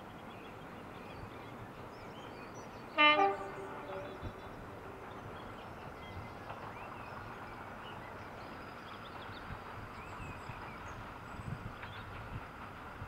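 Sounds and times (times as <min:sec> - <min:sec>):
distant diesel locomotive rumble: 0:00.0 - 0:13.0
birds chirping: 0:00.2 - 0:12.4.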